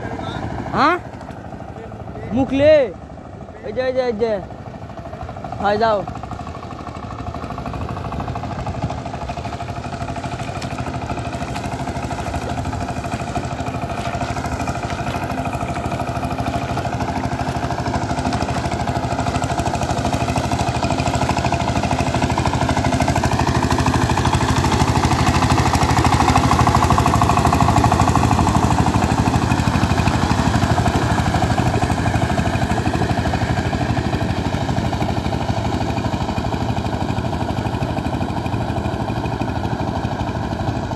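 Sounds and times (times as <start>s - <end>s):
power tiller engine running: 0.0s - 40.9s
tiller churning through water: 0.0s - 40.9s.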